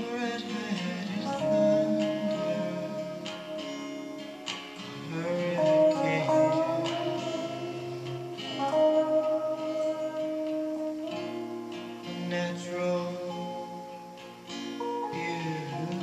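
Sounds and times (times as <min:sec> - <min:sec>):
acoustic guitar strumming chords: 0:00.0 - 0:16.0
electric guitar lead line: 0:00.0 - 0:16.0.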